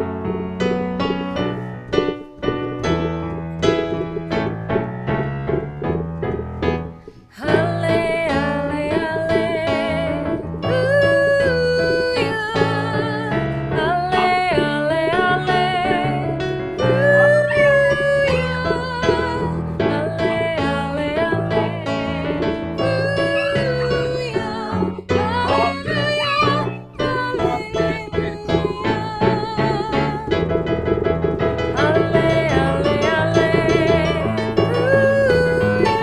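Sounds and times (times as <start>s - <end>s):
piano playing: 0.0s - 36.0s.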